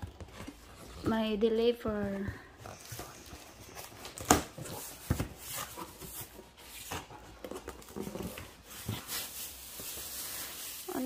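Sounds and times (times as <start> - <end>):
cardboard scraping and rustling: 1.9 - 11.0.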